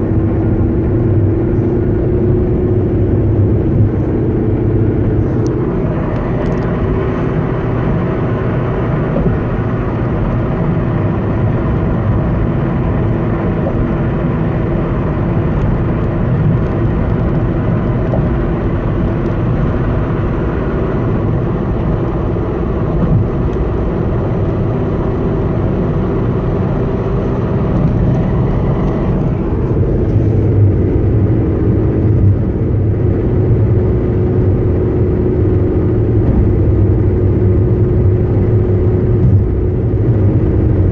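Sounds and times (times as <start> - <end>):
car engine and road noise: 0.0 - 40.9
steady humming: 0.0 - 40.9.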